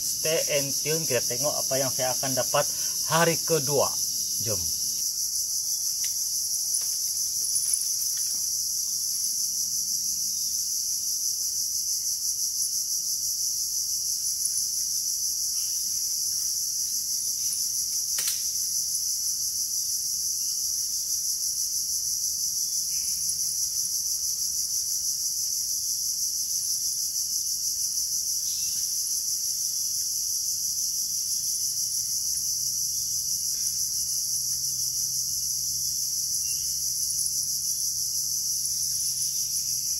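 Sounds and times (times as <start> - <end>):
insects shrilling: 0.0 - 39.9.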